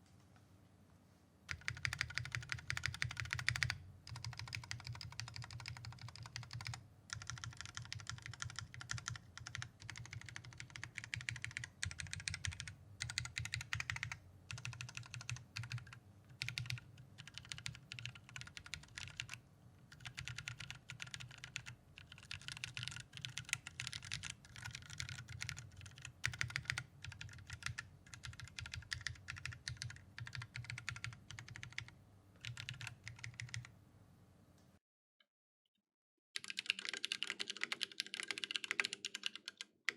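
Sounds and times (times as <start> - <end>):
mechanical keyboard keys pressed: 1.5 - 33.7, 36.4 - 39.9.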